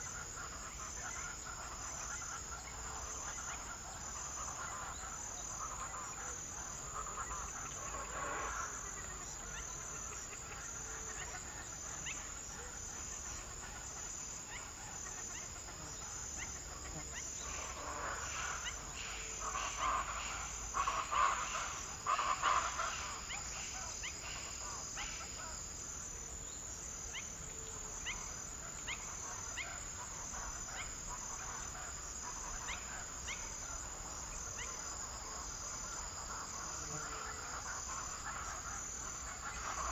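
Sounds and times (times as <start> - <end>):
insects trilling: 0.0 - 39.9
lower-pitched insect calls: 0.0 - 39.9.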